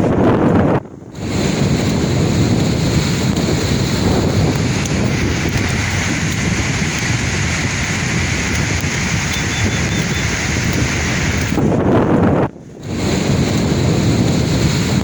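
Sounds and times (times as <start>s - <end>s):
wind buffeting microphone: 0.0s - 15.0s
sea surf washing in: 1.0s - 15.0s.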